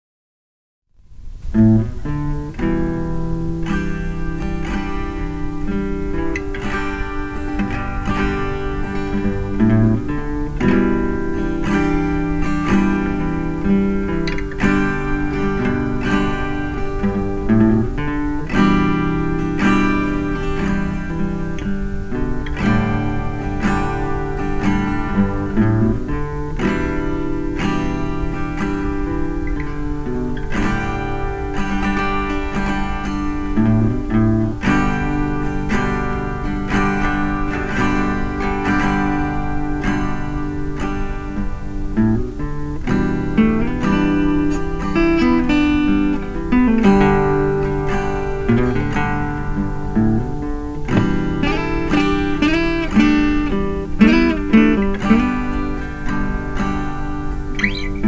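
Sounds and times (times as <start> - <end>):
acoustic guitar duet: 1.1 - 58.0.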